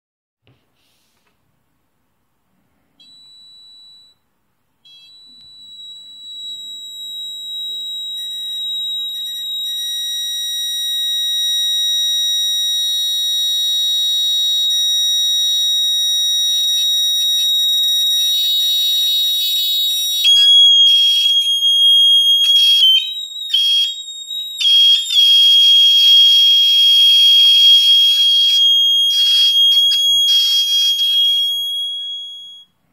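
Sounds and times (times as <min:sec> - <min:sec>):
high-pitched electronic buzzer tone: 0:04.9 - 0:32.7.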